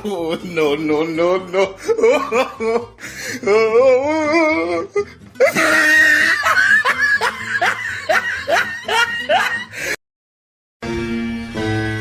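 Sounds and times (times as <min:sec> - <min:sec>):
person laughing ha ha: 0:00.0 - 0:10.0.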